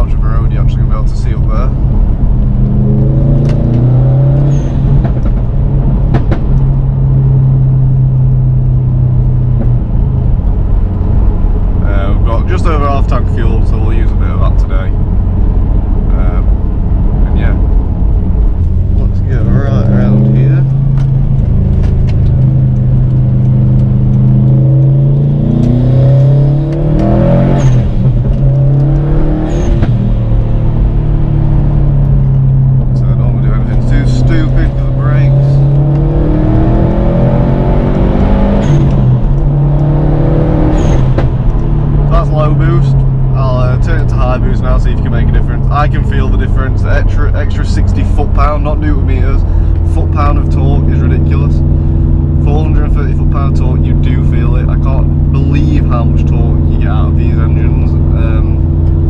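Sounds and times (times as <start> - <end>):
car engine revving inside cabin: 0.0 - 59.0.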